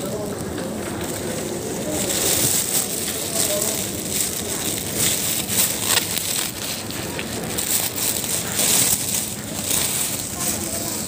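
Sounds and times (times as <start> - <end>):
faint clicks and crackles: 0.0 - 11.0.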